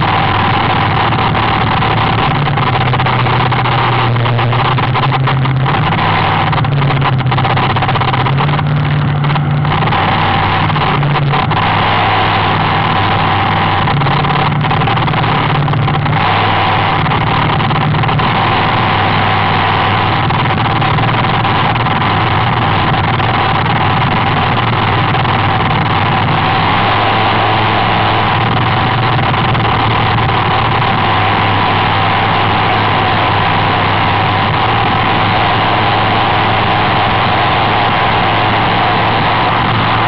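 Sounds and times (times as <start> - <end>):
racing boat engine running: 0.0 - 40.0.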